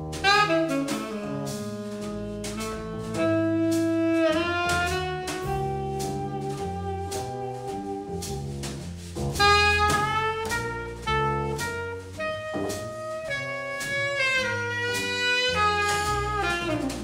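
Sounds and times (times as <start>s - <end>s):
drum kit cymbals: 0.0s - 17.0s
upright double bass: 0.0s - 17.0s
tenor saxophone melody: 0.2s - 8.4s, 9.4s - 17.0s.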